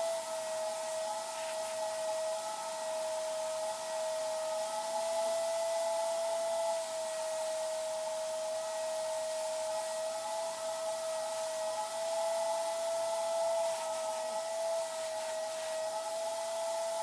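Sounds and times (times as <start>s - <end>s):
spray gun air supply whine: 0.0s - 17.0s.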